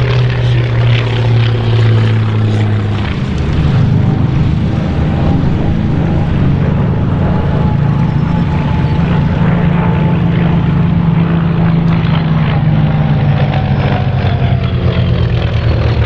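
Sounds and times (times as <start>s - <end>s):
propeller aircraft flying past: 0.0s - 16.0s.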